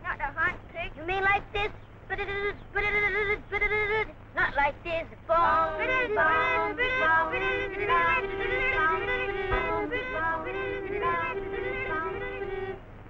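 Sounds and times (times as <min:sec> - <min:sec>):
faint low hum: 0:00.0 - 0:13.0
child singing: 0:00.1 - 0:12.8.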